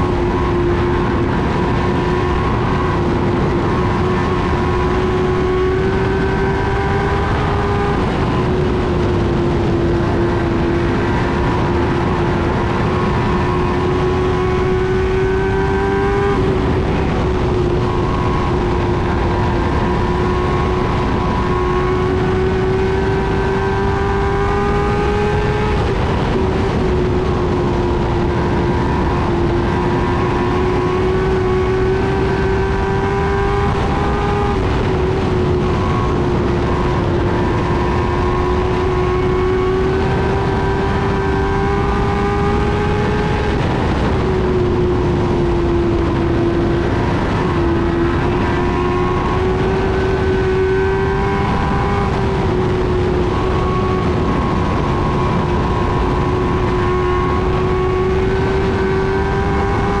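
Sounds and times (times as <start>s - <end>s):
race car engine at high revs: 0.0s - 60.0s
steady rushing noise: 0.0s - 60.0s.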